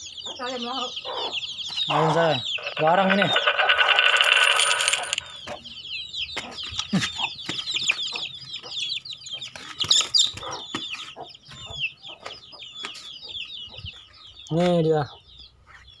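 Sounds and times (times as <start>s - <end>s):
chickens chirping: 0.0s - 3.5s, 5.2s - 16.0s.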